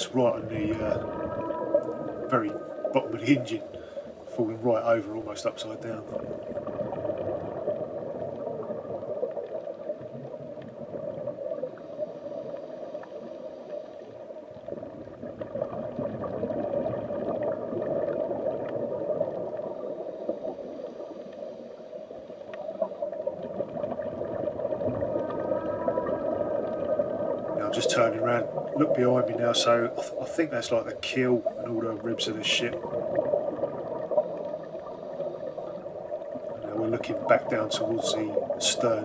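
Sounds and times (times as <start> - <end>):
breathing bubbles: 0.0 - 4.7, 5.8 - 39.0
faint hiss: 0.0 - 15.1, 17.2 - 39.0
underwater watery rush: 0.0 - 39.0.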